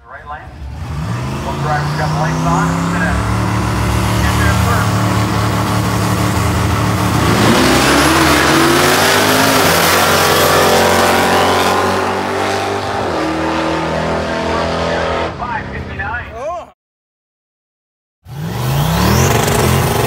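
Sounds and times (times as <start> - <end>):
car engine accelerating hard: 0.4 - 15.6, 18.3 - 20.0.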